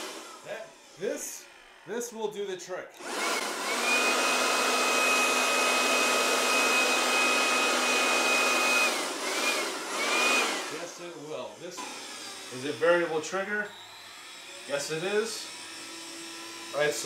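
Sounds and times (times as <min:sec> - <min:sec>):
blower motor whining: 0:00.0 - 0:02.0, 0:03.0 - 0:17.0.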